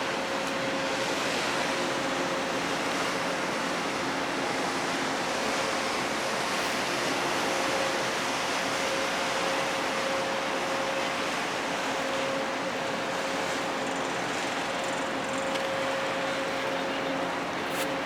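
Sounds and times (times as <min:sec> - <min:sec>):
faint machinery hum: 0:00.0 - 0:18.0.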